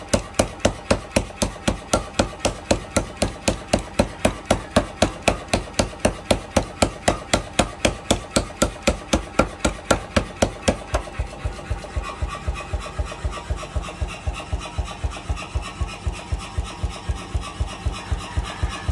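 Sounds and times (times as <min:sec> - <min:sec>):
power hammer pounding steel: 0:00.0 - 0:18.9.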